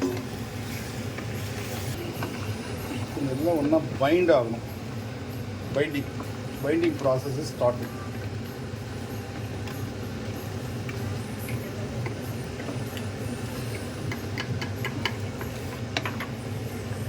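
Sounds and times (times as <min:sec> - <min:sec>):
low cooking hum: 0:00.0 - 0:17.0.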